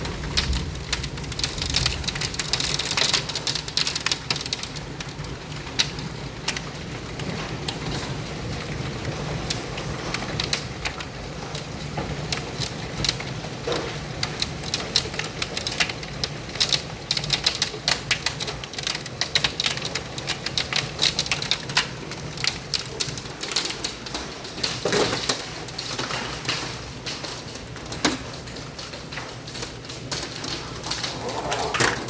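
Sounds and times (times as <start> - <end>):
hailstones striking hard surfaces: 0.0 - 32.0.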